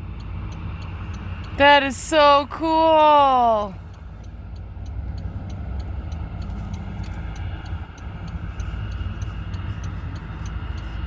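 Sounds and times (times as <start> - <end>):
airplane engine rumble: 0.0 - 11.0
faint high ticking: 0.0 - 11.0.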